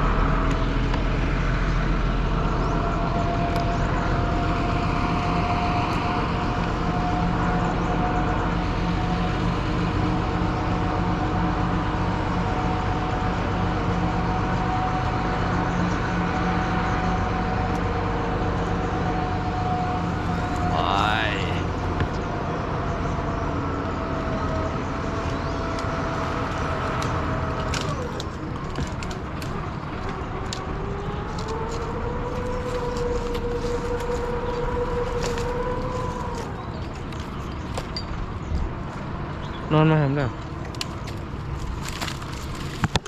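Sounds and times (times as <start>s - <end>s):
higher whine: 0.0s - 40.5s
engine running steadily: 0.0s - 43.0s
low hum: 0.0s - 43.0s.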